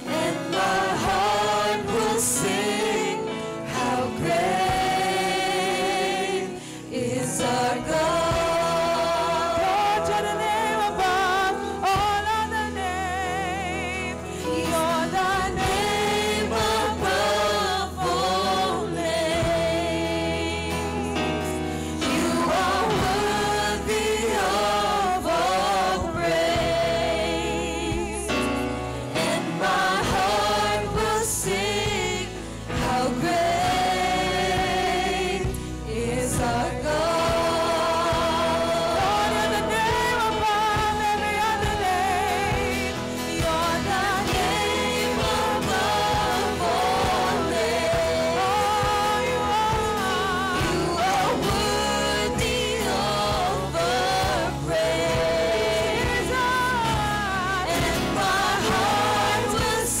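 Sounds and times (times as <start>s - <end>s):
instrumental accompaniment: 0.0s - 60.0s
people singing praise song: 0.0s - 60.0s.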